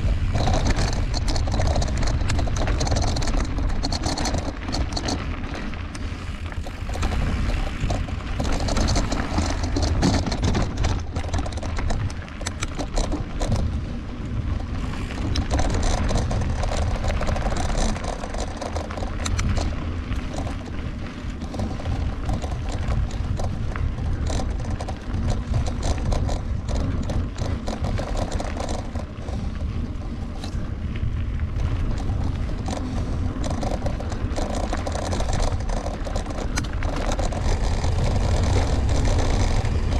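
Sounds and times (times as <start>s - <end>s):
bike rattling over bumps: 0.0s - 39.9s
wind and tyre rumble: 0.0s - 39.9s.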